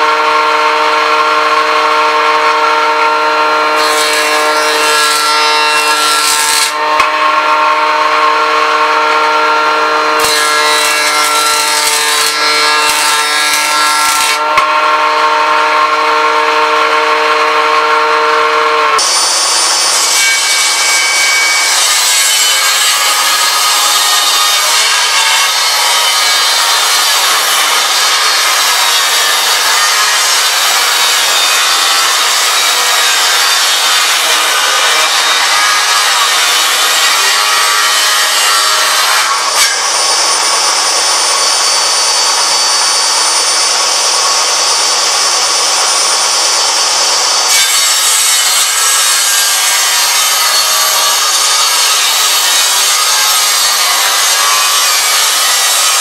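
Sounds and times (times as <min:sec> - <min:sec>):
jointer cutting a board: 0:00.0 - 0:56.0
jointer humming: 0:00.0 - 0:56.0
table saw ripping a board: 0:00.0 - 0:56.0.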